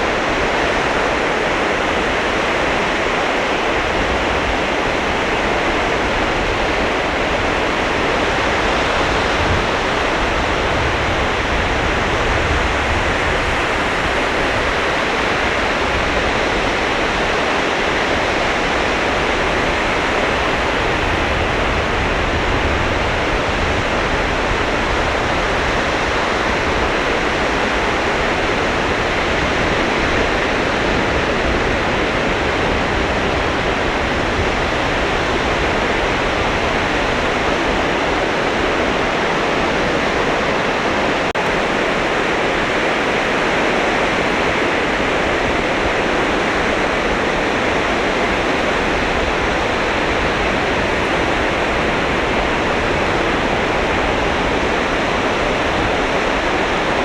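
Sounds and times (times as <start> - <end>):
sea surf breaking on beach: 0.0 - 57.0.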